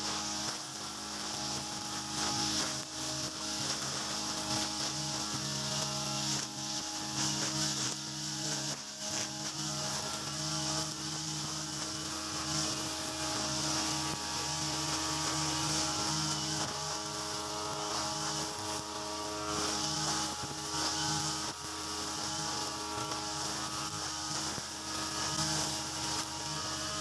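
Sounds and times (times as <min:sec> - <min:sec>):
brush cutter engine running: 0:00.0 - 0:27.0
trimmer line whipping through grass: 0:00.0 - 0:27.0.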